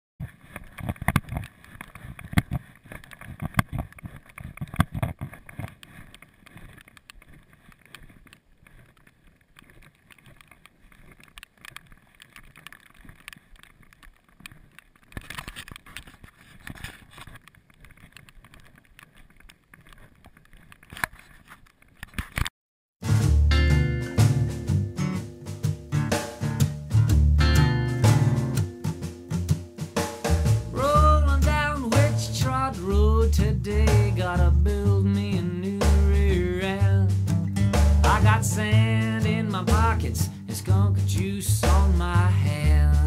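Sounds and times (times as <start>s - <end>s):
clicks and thumps: 0.2s - 43.0s.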